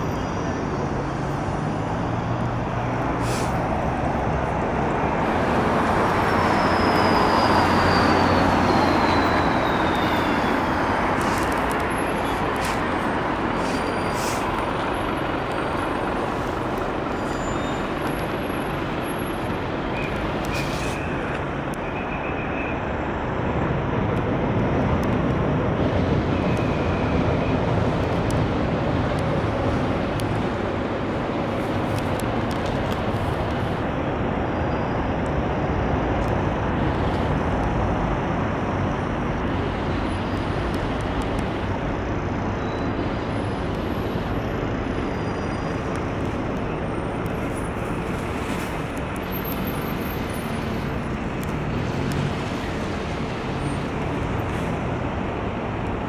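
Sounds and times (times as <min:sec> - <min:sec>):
road traffic rumbling: 0:00.0 - 0:56.0.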